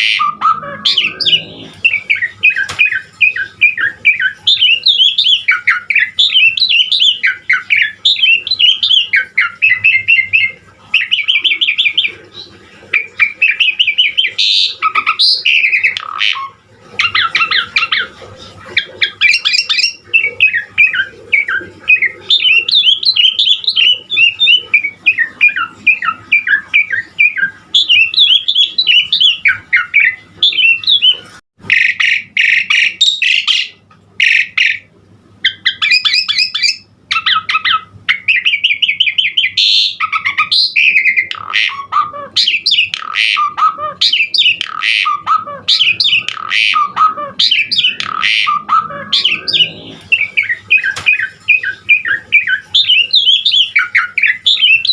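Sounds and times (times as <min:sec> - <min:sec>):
starling singing: 0:00.0 - 0:54.9.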